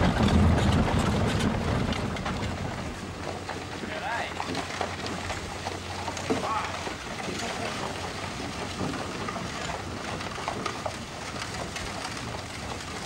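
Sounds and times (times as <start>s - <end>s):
carriage wheels on dirt road: 0.0s - 13.0s
hooves clicking: 0.0s - 13.0s.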